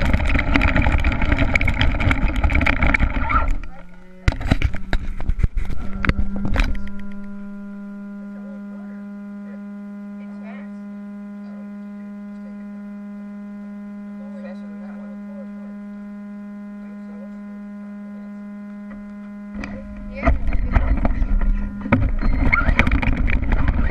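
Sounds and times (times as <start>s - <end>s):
electrical hum: 0.0s - 23.9s.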